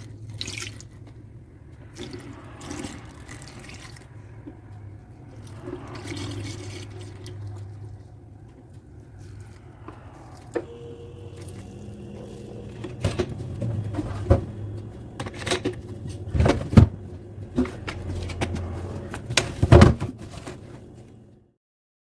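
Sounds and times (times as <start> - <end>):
steady low hum: 1.0 - 21.4.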